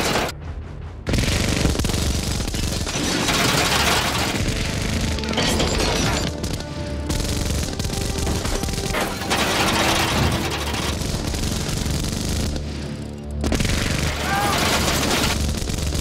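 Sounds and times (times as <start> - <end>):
film score music: 0.0 - 16.0.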